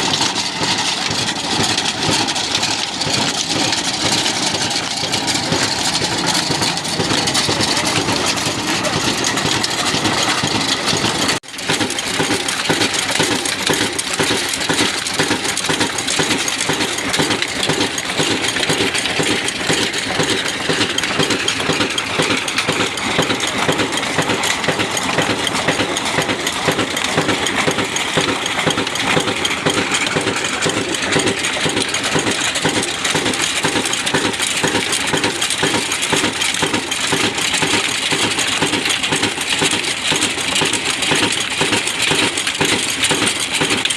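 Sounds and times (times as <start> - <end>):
engine driving flour mill clattering: 0.0 - 43.9.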